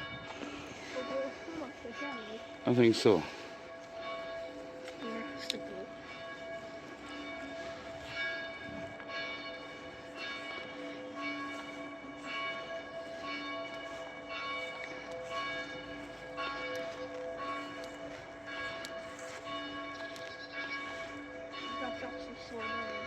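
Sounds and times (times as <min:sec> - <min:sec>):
church bells ringing: 0:00.0 - 0:23.0.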